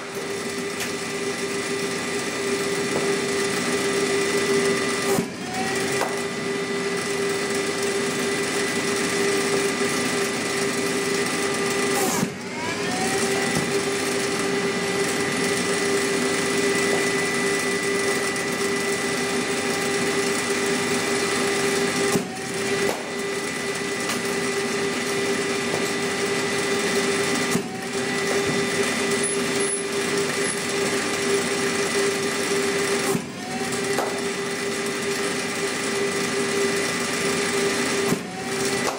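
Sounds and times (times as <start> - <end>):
bowling machine motor hum: 0.0 - 38.9.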